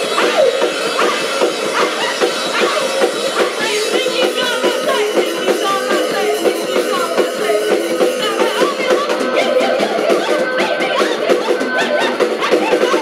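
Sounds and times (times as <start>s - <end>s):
live rock band playing: 0.0s - 13.0s
woman singing: 0.1s - 13.0s.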